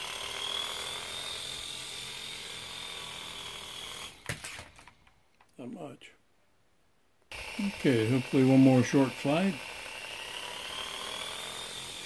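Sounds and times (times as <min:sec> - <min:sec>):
toy helicopter rotors whirring: 0:00.0 - 0:05.0, 0:07.3 - 0:12.0.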